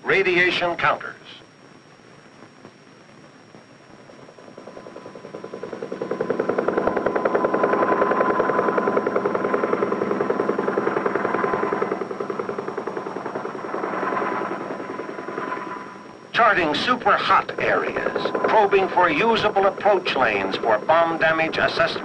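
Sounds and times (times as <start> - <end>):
helicopter rotor chopping: 0.0 - 22.0.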